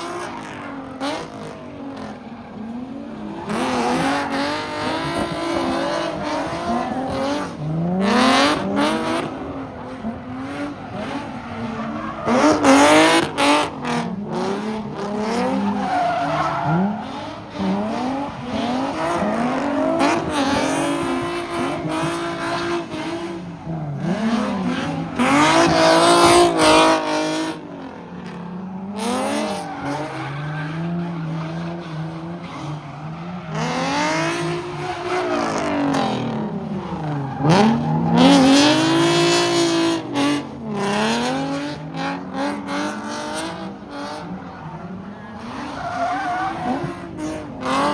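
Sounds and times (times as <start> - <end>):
car engine revving: 0.0 - 44.7, 45.4 - 47.9
tires squealing: 0.0 - 47.9.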